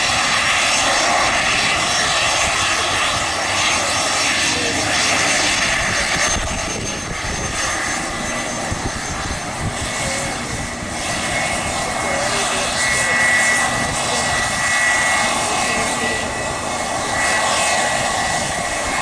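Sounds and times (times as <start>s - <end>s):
jet engines whining: 0.0s - 19.0s.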